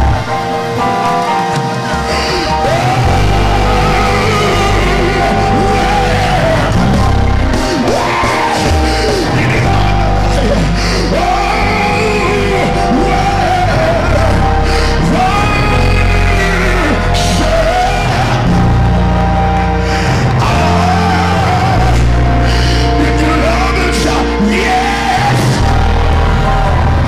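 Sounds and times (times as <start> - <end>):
gospel band playing: 0.0 - 27.0
person singing and shouting: 1.9 - 18.7, 20.0 - 26.7.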